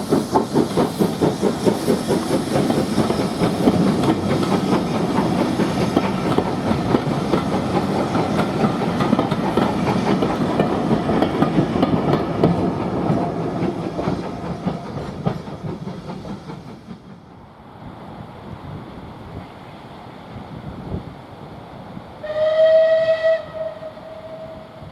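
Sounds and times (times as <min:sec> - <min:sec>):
steam train passing: 0:00.0 - 0:24.9.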